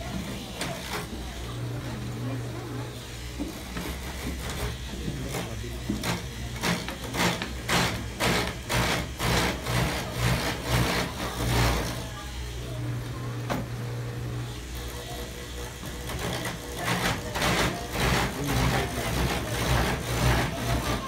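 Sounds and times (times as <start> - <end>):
cutter rasping wood: 0.0 - 21.0
lathe motor hum: 0.0 - 21.0.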